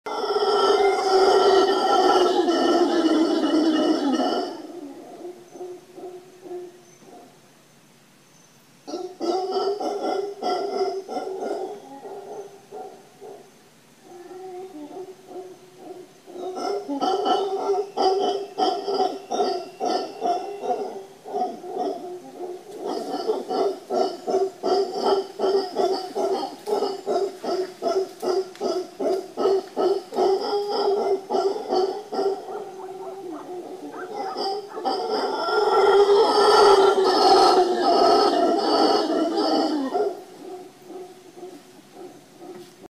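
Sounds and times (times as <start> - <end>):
howler monkey howling: 0.1 - 7.4, 8.9 - 42.8.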